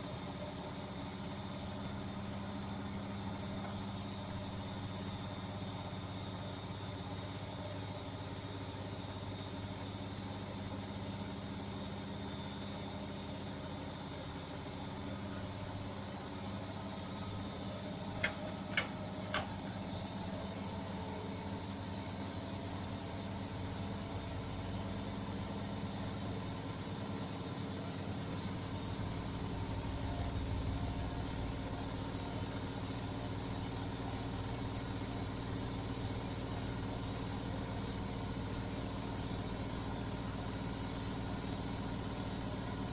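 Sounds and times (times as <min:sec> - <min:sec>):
washing machine spinning: 0:00.0 - 0:42.9.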